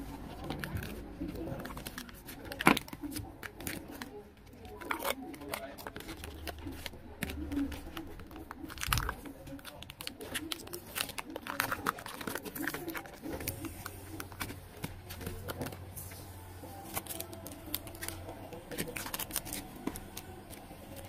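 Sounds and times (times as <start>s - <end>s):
plastic sleeves crinkling: 0.0s - 21.0s.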